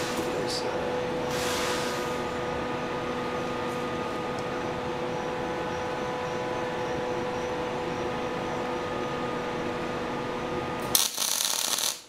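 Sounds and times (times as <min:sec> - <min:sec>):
faint high whine: 0:00.0 - 0:12.0
steady machine hum: 0:00.0 - 0:12.0.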